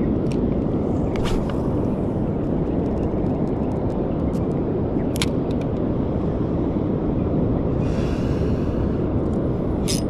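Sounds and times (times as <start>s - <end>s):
wind and surf rumble: 0.0s - 10.0s.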